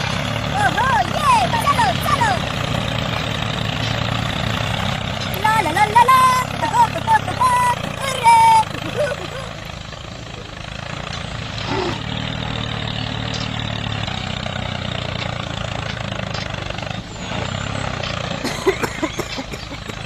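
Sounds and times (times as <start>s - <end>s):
small tractor motor running: 0.0s - 20.0s.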